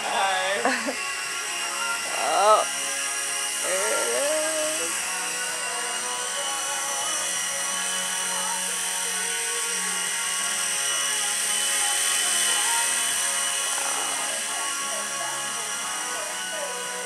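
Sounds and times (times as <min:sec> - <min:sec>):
toy helicopter rotors whirring: 0:00.0 - 0:17.0.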